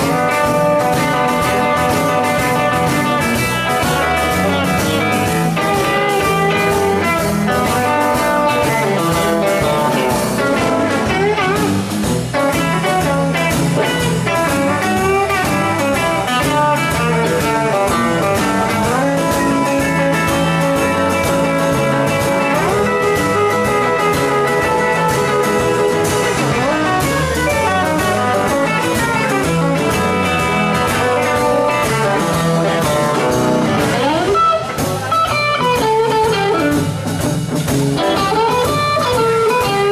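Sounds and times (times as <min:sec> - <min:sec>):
drum kit: 0:00.0 - 0:39.9
electric bass: 0:00.0 - 0:39.9
electric guitar lead lines: 0:00.0 - 0:39.9.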